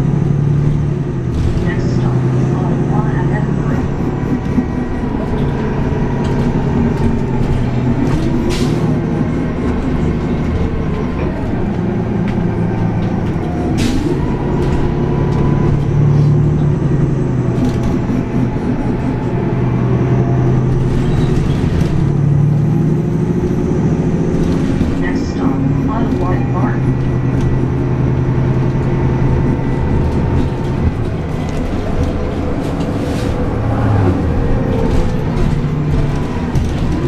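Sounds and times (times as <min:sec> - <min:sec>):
bus engine droning: 0:00.0 - 0:37.0.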